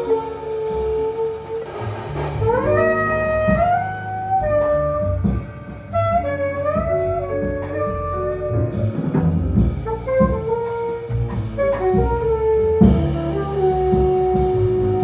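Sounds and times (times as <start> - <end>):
saxophone melody: 0.0 - 1.7, 2.4 - 15.0
bass: 0.0 - 15.0
drums with cymbal strokes: 0.0 - 15.0.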